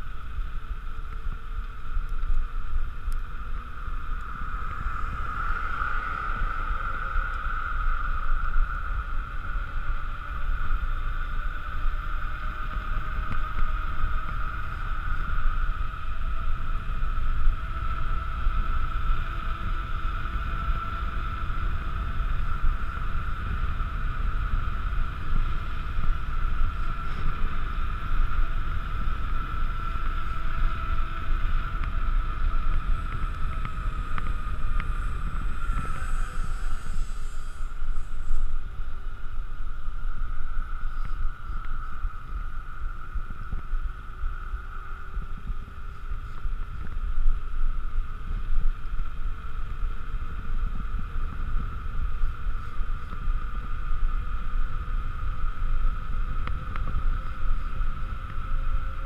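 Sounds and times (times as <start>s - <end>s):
bike tyres rolling on asphalt: 0.0s - 59.0s
steady high hum: 0.0s - 59.0s
wind buffeting microphone: 0.0s - 59.0s.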